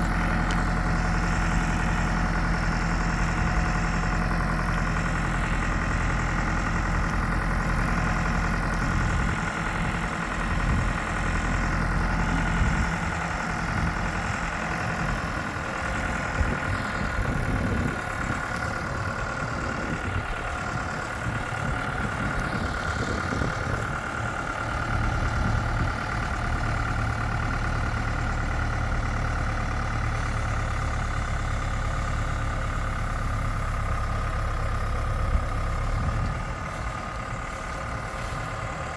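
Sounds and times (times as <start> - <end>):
constant whine: 0.0 - 38.9
engine running: 0.0 - 38.9.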